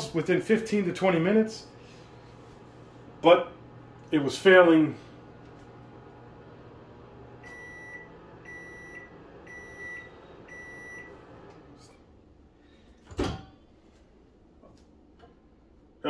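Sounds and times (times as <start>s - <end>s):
microwave running hum: 0.0s - 16.0s.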